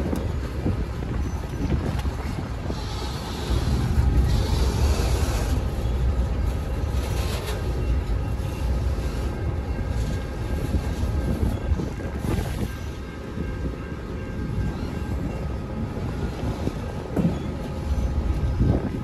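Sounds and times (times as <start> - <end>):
train wheels rumbling: 0.0 - 19.0
wheels clattering on rails: 0.0 - 19.0.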